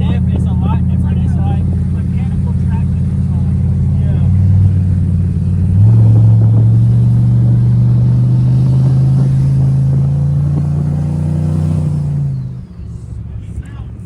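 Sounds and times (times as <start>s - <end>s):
truck engine accelerating: 0.0s - 14.0s.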